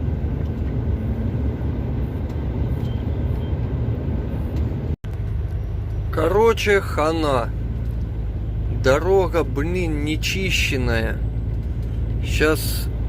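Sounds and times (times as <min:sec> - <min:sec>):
road noise inside cab: 0:00.0 - 0:13.0
truck engine rumble: 0:00.0 - 0:13.0.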